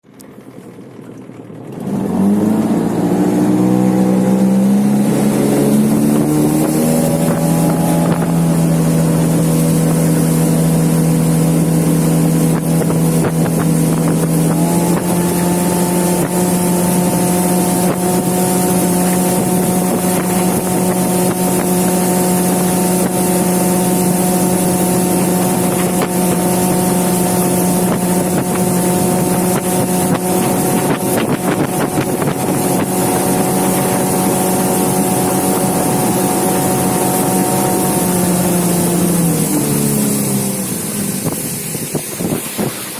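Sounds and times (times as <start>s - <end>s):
outboard motor at full throttle: 0.0s - 42.9s
wind buffeting microphone: 2.6s - 42.9s.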